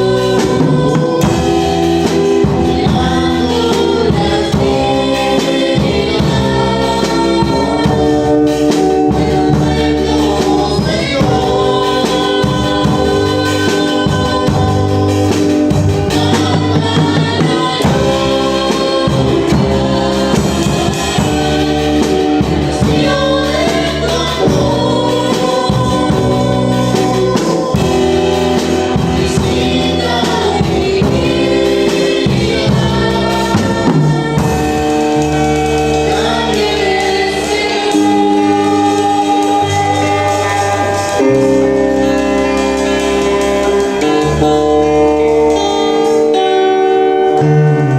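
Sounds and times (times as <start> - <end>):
instruments with steady beat: 0.0 - 46.6
gospel group singing: 0.0 - 47.9.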